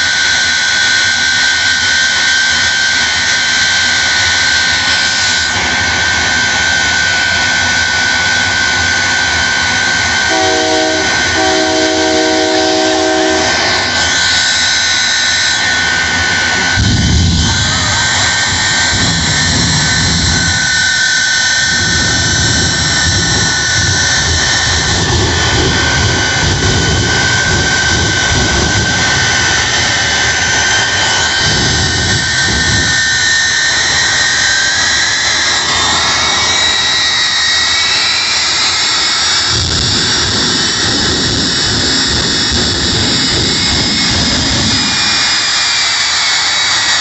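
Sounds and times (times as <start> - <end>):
high-pitched engine whines: 0.0 - 47.0
jet engine roar: 0.0 - 47.0
whine climbing in pitch: 0.0 - 47.0.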